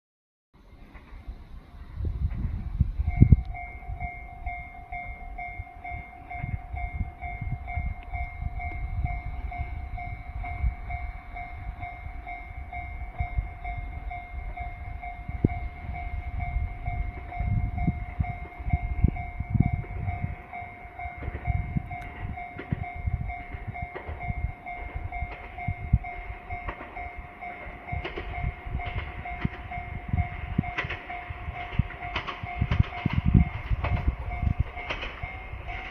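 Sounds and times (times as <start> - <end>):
low train rumble: 0.6 - 35.9
train wheels clacking: 2.2 - 35.9
level crossing bell ringing: 3.2 - 35.9.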